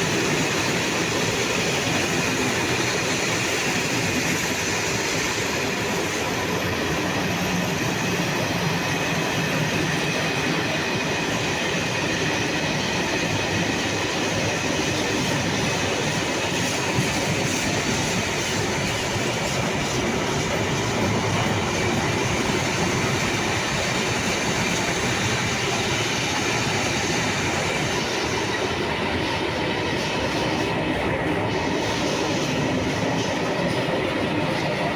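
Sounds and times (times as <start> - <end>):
train wheels on rails: 0.0 - 34.9.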